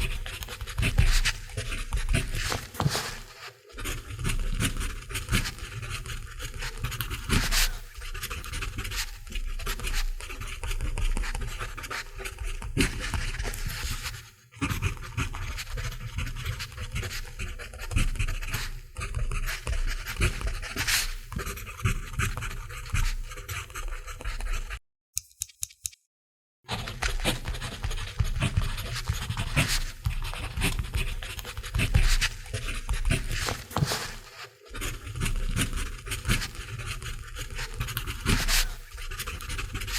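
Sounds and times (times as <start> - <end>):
pencil writing on paper: 0.0 - 24.8, 26.7 - 39.9.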